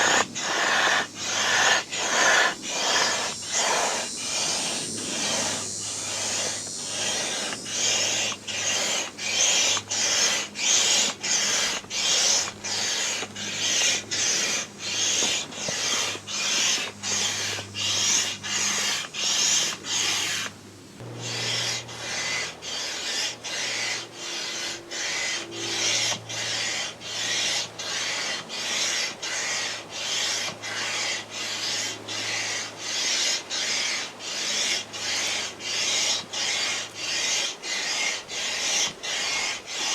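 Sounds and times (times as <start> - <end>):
manual air pump strokes: 0.0 - 39.9.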